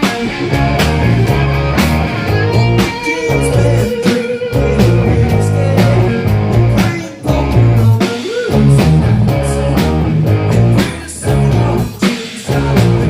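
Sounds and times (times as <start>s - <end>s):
bass line: 0.0s - 13.0s
blues-rock band playing: 0.0s - 13.0s
lead guitar: 0.0s - 13.0s.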